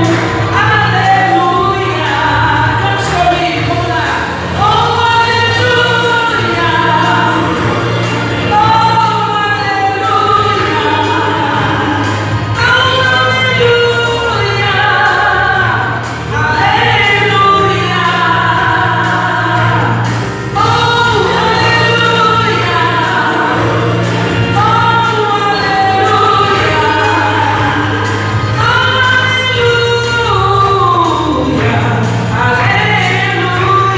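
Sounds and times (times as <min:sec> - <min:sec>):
steady bass: 0:00.0 - 0:33.9
voices singing a hymn: 0:00.0 - 0:33.9.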